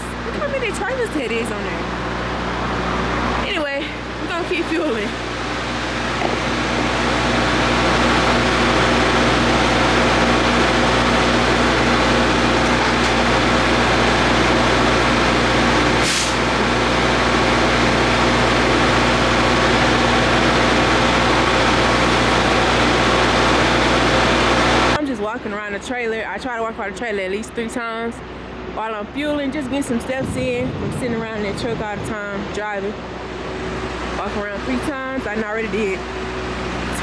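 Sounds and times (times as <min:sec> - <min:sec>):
diesel engine idling: 0:00.0 - 0:30.6.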